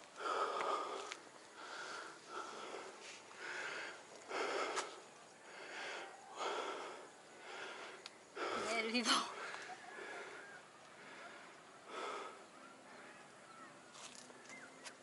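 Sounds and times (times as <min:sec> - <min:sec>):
heavy rhythmic breathing: 0:00.0 - 0:13.3.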